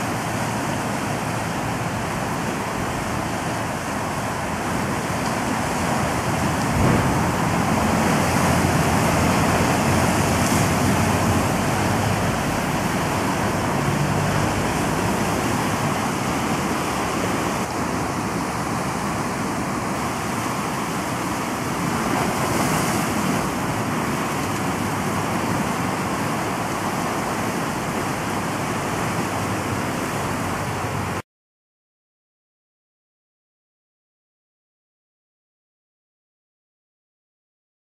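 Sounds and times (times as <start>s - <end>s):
ocean surf against rocks: 0.0s - 31.2s
wind on microphone: 0.0s - 31.2s.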